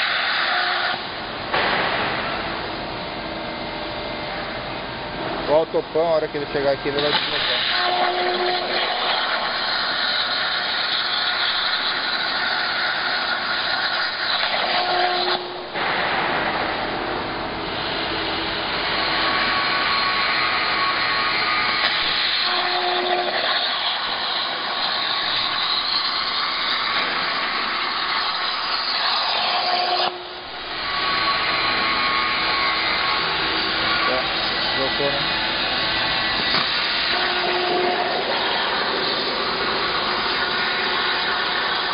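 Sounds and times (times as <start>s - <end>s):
plasma torch arc hissing: 0.0s - 2.8s, 6.8s - 41.9s.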